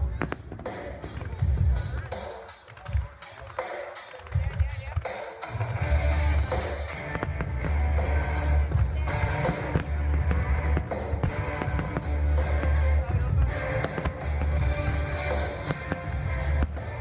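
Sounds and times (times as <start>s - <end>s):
loud pop-rock music: 0.0s - 17.0s.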